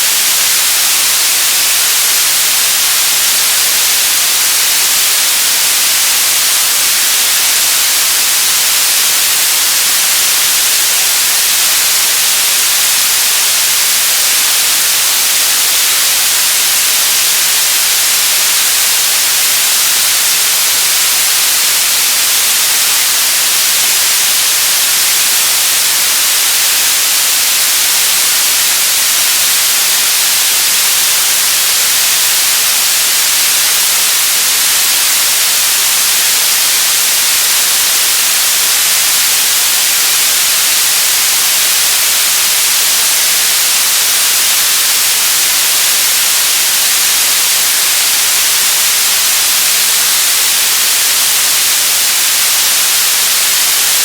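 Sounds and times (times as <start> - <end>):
television static hiss: 0.0 - 54.0.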